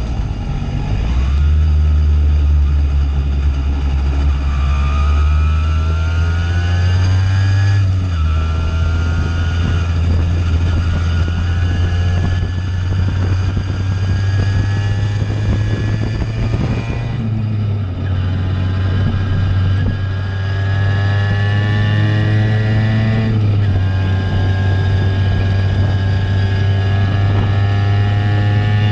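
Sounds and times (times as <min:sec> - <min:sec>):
moped engine revving: 0:00.6 - 0:28.9.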